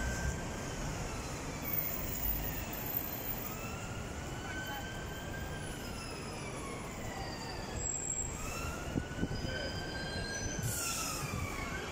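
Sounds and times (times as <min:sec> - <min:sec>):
emergency siren wailing: 0:00.0 - 0:11.9
street traffic: 0:00.0 - 0:11.9.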